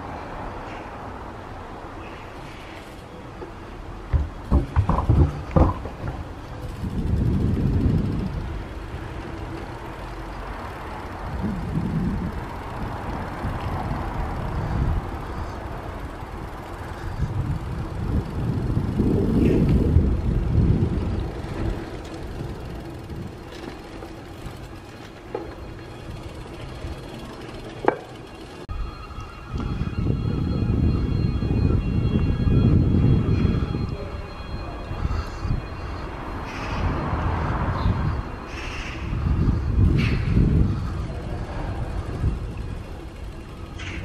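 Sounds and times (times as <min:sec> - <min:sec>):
low street rumble: 0:00.0 - 0:44.0.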